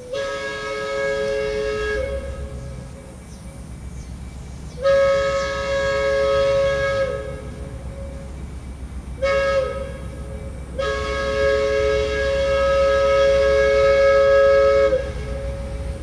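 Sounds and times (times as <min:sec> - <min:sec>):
locomotive horn: 0:00.0 - 0:03.2, 0:04.8 - 0:08.4, 0:09.2 - 0:16.0
train rumble: 0:00.0 - 0:16.0.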